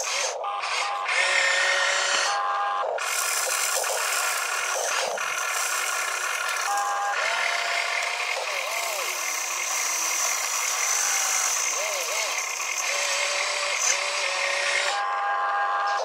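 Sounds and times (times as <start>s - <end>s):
electric gear motors whining: 0.0s - 16.0s.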